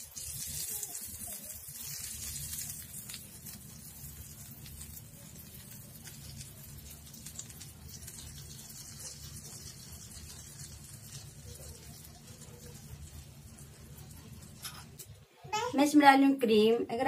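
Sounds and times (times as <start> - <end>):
hot oil sizzling and crackling: 0.0 - 15.2.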